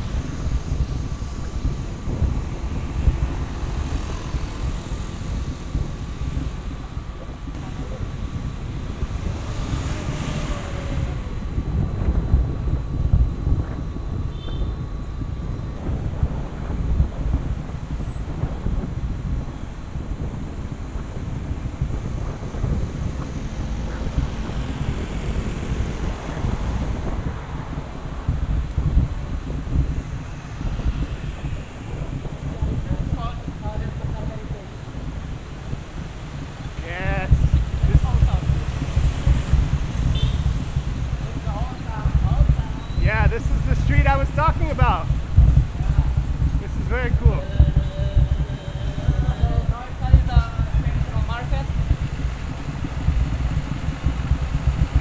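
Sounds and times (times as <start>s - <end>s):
faint road traffic hum: 0.0s - 55.0s
wind rumbling on microphone: 0.0s - 55.0s.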